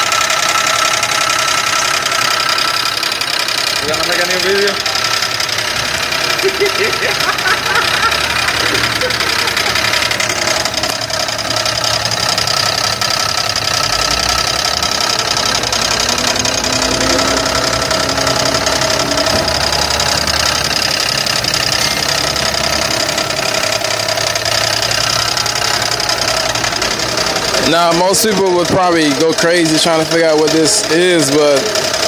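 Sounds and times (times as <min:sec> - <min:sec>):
engine running with knocking: 0:00.0 - 0:32.0.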